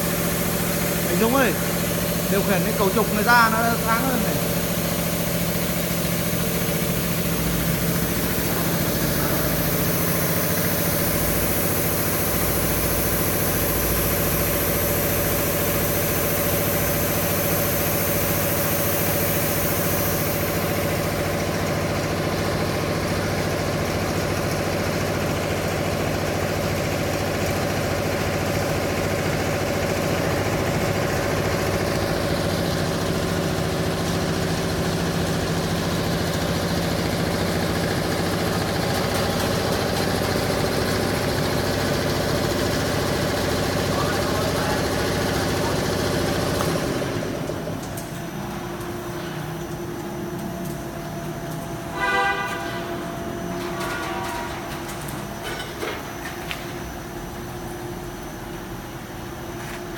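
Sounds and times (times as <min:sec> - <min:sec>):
machine mechanical hum: 0:00.0 - 0:59.9.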